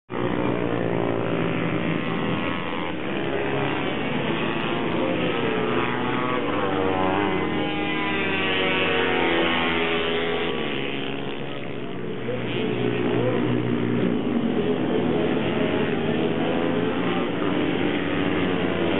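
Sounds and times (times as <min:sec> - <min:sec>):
minibike engines racing: 0:00.1 - 0:18.9.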